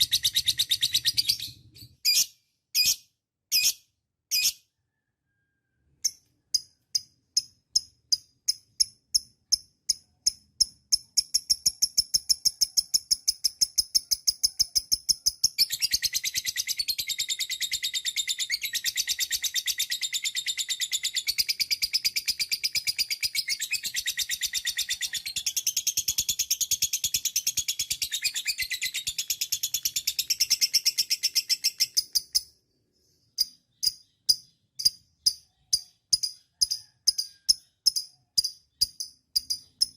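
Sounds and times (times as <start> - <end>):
lovebird chirps and trill: 0.0 - 39.9.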